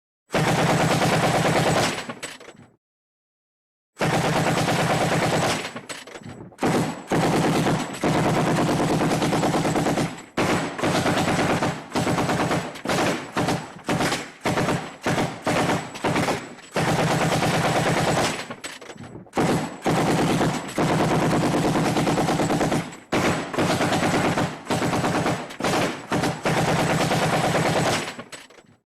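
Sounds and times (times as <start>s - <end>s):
machine gun firing bursts: 0.3s - 2.1s, 4.0s - 5.8s, 6.6s - 18.6s, 19.3s - 28.3s.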